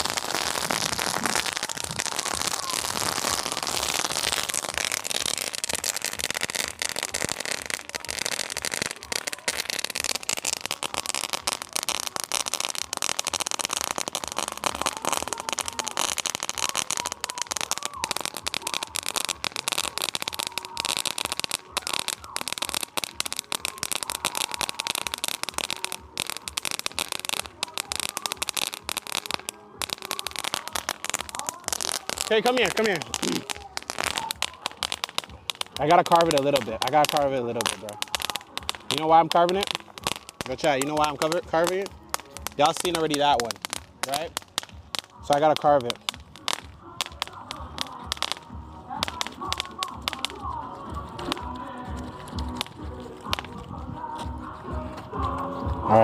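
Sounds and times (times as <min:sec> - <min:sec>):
firework hiss: 0:00.0 - 0:54.1
firework crackling: 0:00.0 - 0:56.0.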